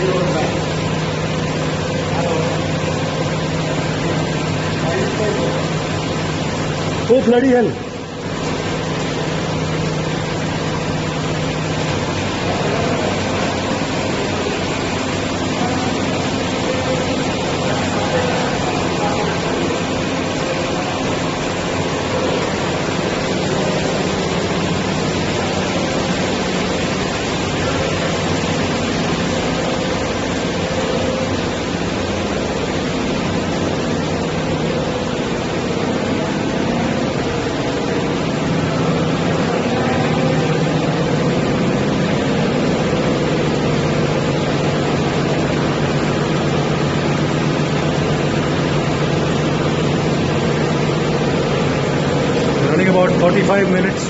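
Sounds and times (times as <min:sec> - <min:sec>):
extrusion machine humming: 0:00.0 - 0:54.0.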